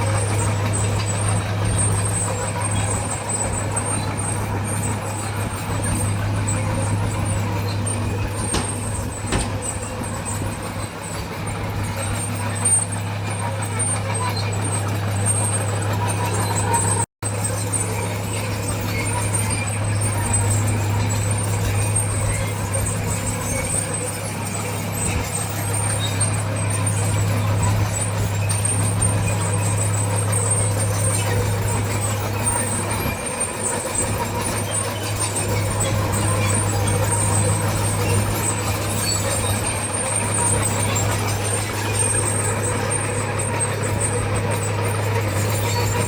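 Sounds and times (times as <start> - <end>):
diesel engine low drone: 0.0 - 46.0.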